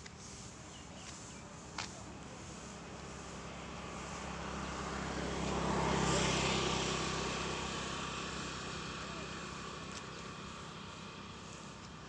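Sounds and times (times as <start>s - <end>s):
vehicle passing by: 0.3s - 11.9s.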